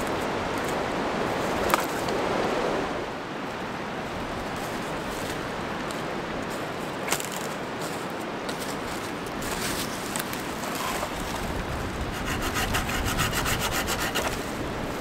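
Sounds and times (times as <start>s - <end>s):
storm wind through trees: 0.0s - 15.0s.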